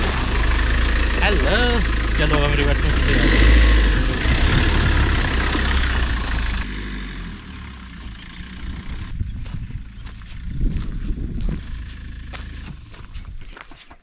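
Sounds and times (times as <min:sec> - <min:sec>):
distant engine: 0:00.0 - 0:13.4
diesel engine rumbling: 0:00.0 - 0:14.0.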